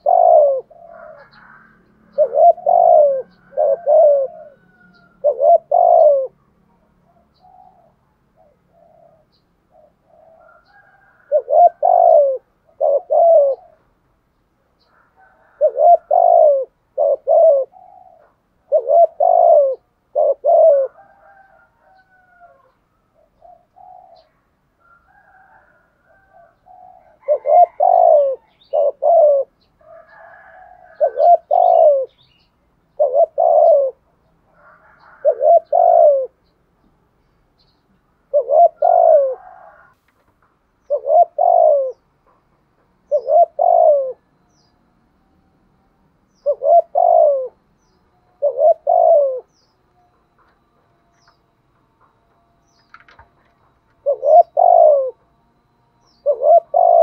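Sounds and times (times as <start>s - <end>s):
dove cooing: 0.0s - 14.0s, 14.8s - 36.5s, 38.2s - 40.0s, 40.8s - 45.0s, 46.3s - 57.0s.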